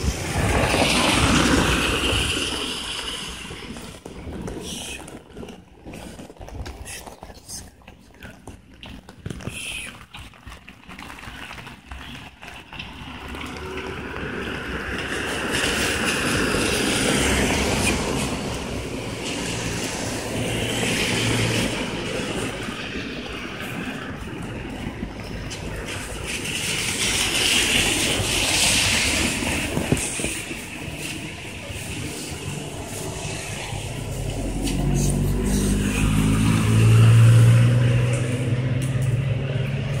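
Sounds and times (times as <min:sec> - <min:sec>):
tyres hissing on wet road: 0:00.0 - 0:05.4, 0:09.4 - 0:10.3, 0:11.0 - 0:40.0
vehicle engine humming: 0:01.6 - 0:40.0.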